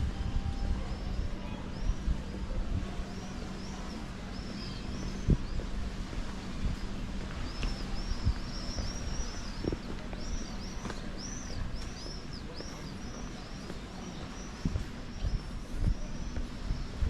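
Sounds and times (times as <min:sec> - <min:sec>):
street background noise: 0:00.0 - 0:17.0
small birds chirping: 0:00.5 - 0:05.8, 0:06.6 - 0:17.0.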